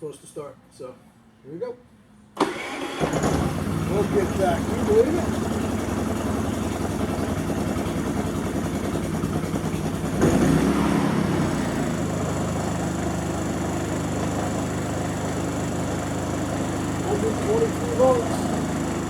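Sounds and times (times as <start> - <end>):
generator engine running: 2.4 - 19.0.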